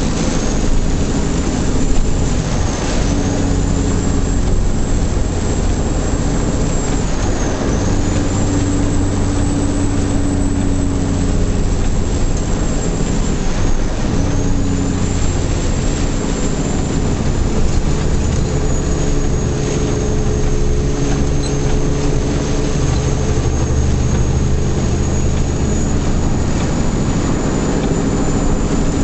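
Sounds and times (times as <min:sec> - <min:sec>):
road noise: 0:00.0 - 0:29.0
truck diesel engine running: 0:00.0 - 0:29.0.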